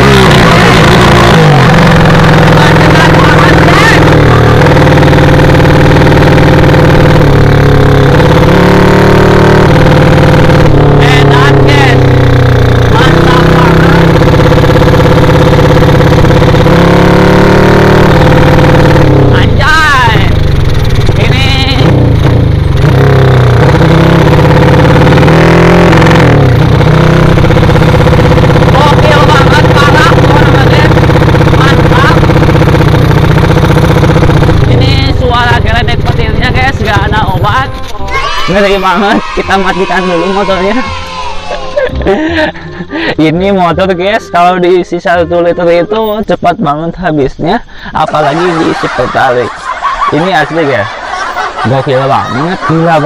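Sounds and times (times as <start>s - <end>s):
motorcycle engine revving: 0.0s - 43.9s, 48.0s - 53.0s.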